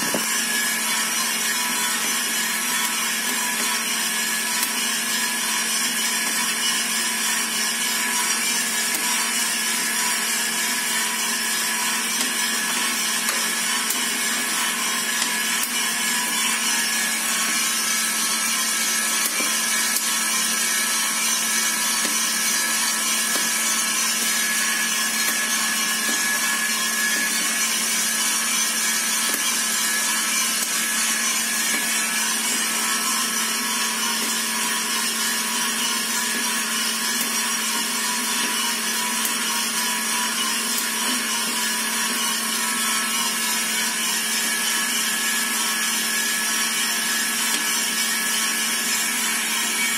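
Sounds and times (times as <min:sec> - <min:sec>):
coffee roaster motor hum: 0:00.0 - 0:49.9.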